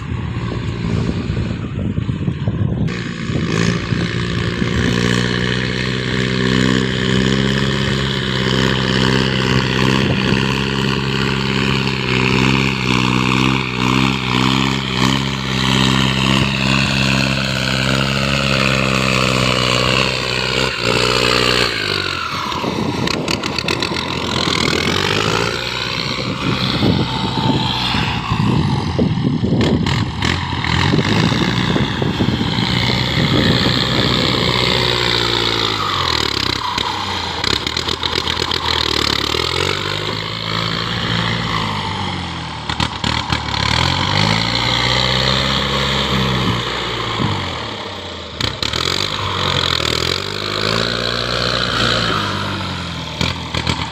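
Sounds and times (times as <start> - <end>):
engine revving: 0.0 - 53.9.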